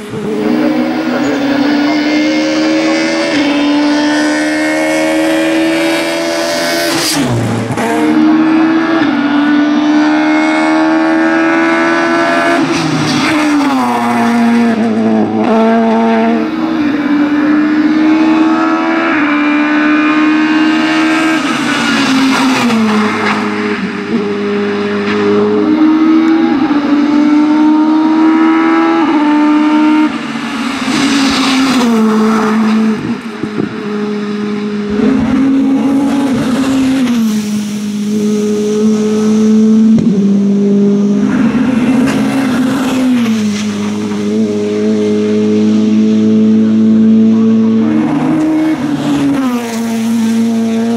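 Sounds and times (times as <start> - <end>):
racing car engines at high revs: 0.0 - 50.9.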